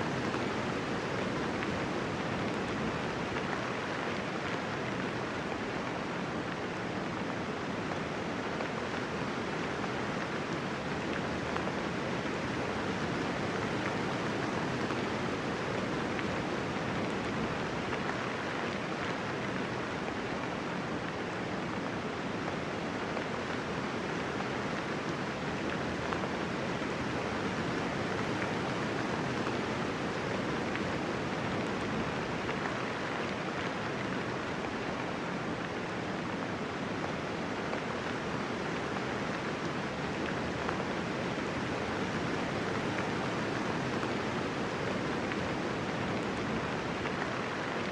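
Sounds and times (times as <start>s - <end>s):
steady rainfall: 0.0s - 47.9s.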